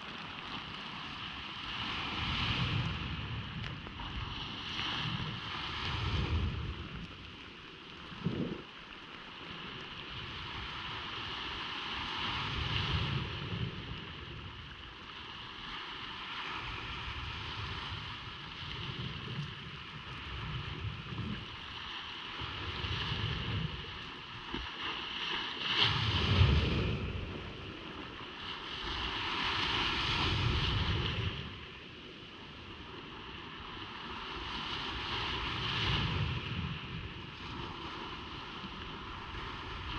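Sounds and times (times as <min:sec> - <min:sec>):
ocean surf on beach: 0:00.0 - 0:39.9
wind on microphone: 0:00.0 - 0:39.9.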